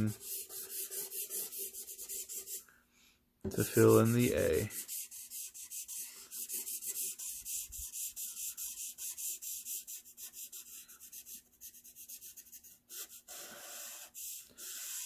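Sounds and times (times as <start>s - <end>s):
marker scribbling on paper: 0.0s - 2.6s, 3.5s - 15.0s.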